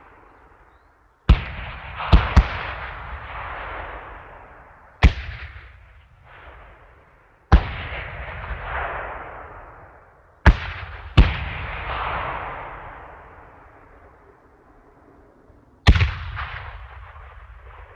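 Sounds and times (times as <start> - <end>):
explosive blasts with rolling echo: 0.0 - 17.9.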